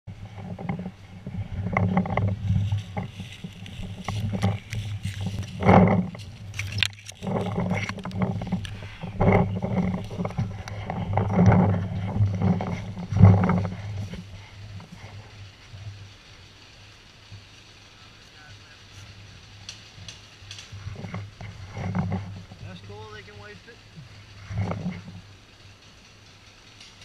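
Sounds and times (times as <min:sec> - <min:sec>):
leaves and brush rustling: 0:00.1 - 0:27.0.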